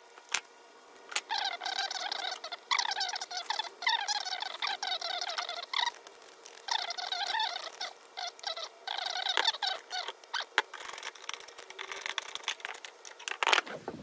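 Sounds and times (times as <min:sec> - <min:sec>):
squeaky sped-up chatter: 0:01.3 - 0:13.0.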